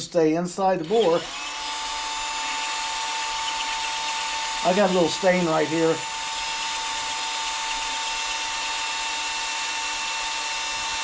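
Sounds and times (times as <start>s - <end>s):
power drill whining: 0.8s - 11.0s.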